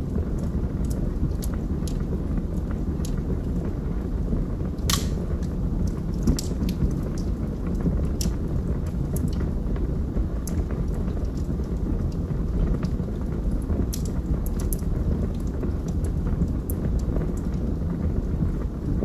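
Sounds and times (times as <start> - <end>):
fire crackles and pops: 0.0 - 19.0
low roar of flames: 0.0 - 19.0.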